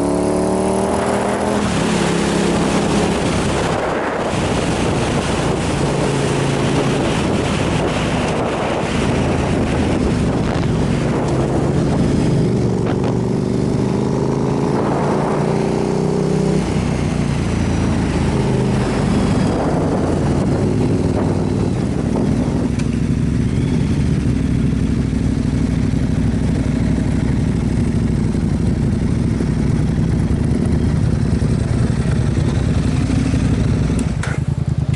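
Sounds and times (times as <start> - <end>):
wind rushing over microphone: 0.0 - 34.2
motorcycle engine revving: 0.0 - 34.9.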